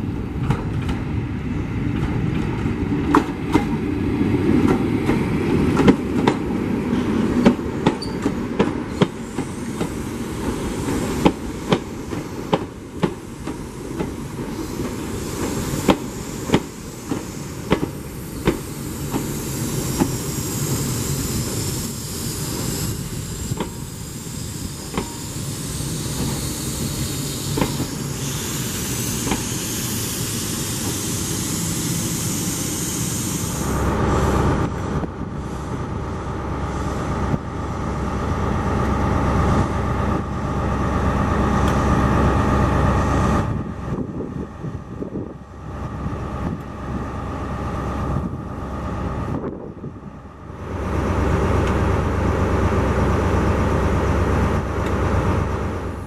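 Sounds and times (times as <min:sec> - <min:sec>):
diesel locomotive engine: 0:00.0 - 0:56.0
train coaches rolling by: 0:00.0 - 0:56.0.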